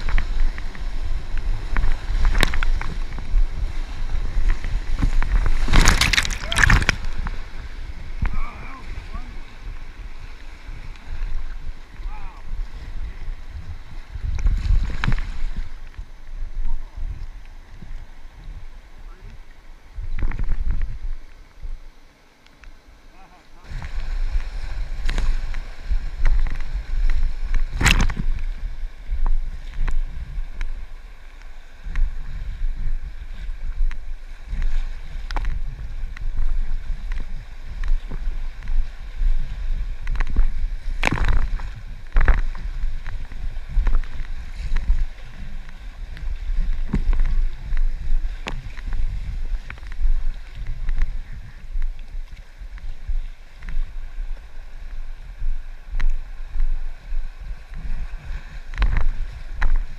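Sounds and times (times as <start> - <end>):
river water moving: 0.0 - 59.9
wind rumbling on microphone: 0.0 - 59.9.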